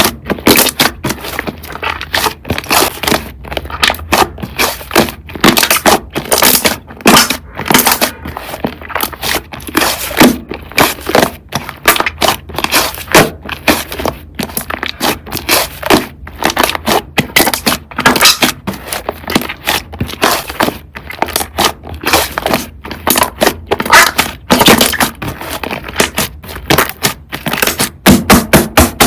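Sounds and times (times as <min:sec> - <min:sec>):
slime squished by hand: 0:00.0 - 0:29.0.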